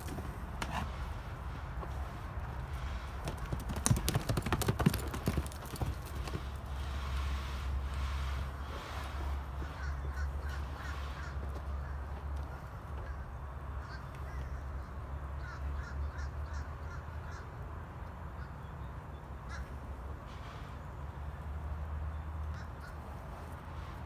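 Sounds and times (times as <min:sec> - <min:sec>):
birds calling: 0:02.8 - 0:17.6, 0:18.3 - 0:21.4, 0:22.0 - 0:23.9.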